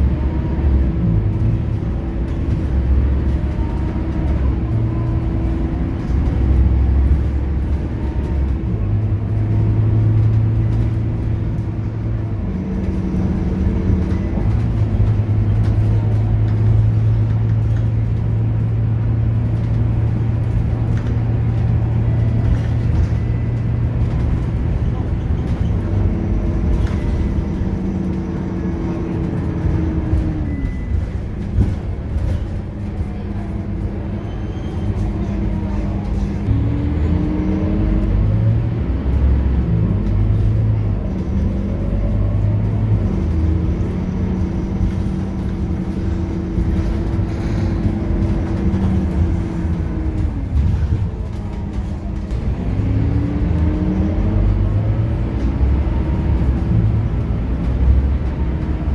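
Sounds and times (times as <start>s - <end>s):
bus diesel engine running: 0.0s - 58.9s.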